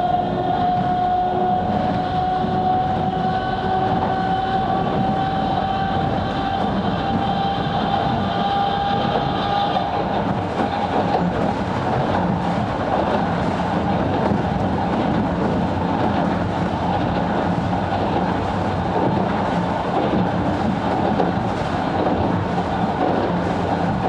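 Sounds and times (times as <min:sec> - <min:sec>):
high steady whine: 0:00.0 - 0:24.0
train wheels rumbling on rails: 0:00.0 - 0:24.0.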